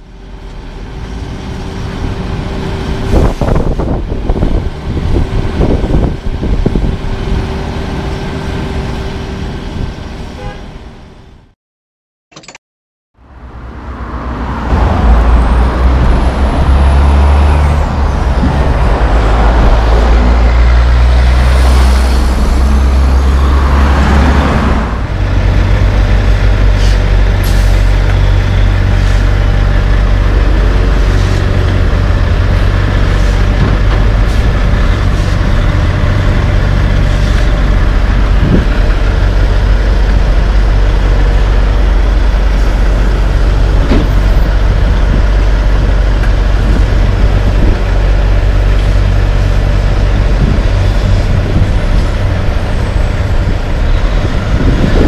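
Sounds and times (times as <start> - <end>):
dump truck engine droning: 0.0 - 11.5, 13.3 - 55.0
passing road traffic: 0.0 - 11.6, 13.2 - 55.0.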